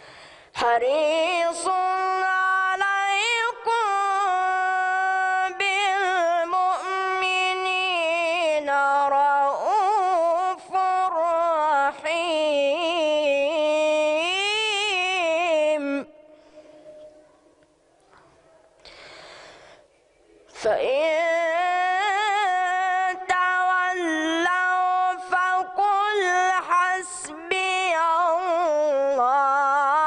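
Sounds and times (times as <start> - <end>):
boy reciting in melodic style: 0.0 - 17.4, 20.5 - 30.0.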